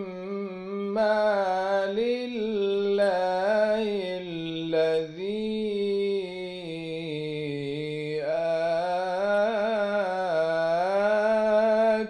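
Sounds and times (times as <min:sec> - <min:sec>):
man reciting melodic chant: 0:00.0 - 0:12.0.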